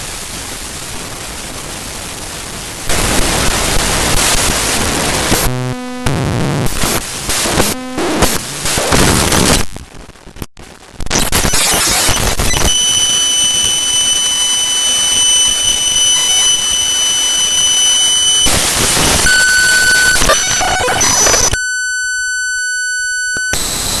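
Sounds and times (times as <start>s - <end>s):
harsh static: 0.0s - 21.6s, 22.3s - 24.0s.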